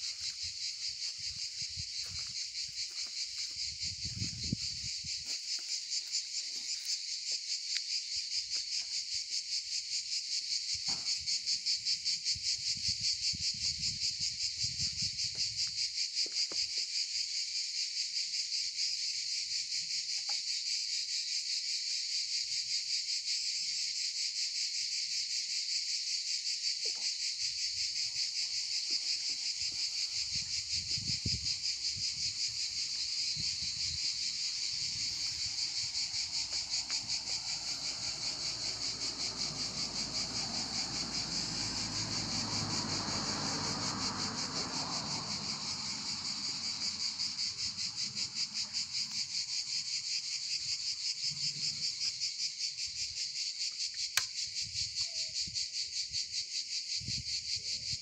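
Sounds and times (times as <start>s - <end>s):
insect chorus chirring: 0.0s - 58.0s.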